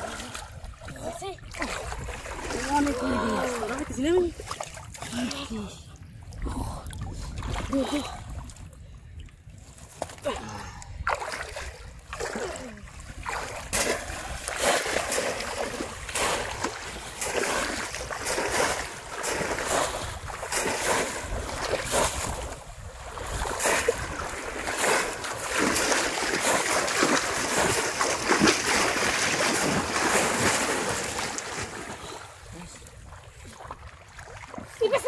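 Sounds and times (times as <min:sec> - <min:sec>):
pond water splashing: 0:00.0 - 0:05.6, 0:09.9 - 0:35.0.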